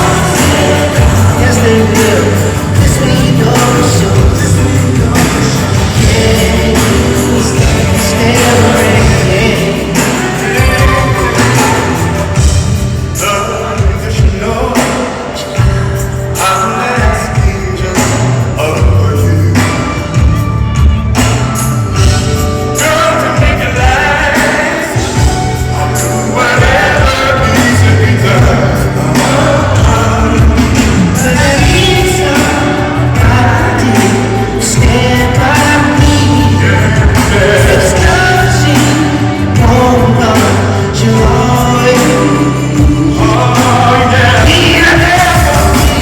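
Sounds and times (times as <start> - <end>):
male vocal group singing: 0.0 - 20.4, 21.8 - 46.0
band bass and keyboards: 0.0 - 46.0.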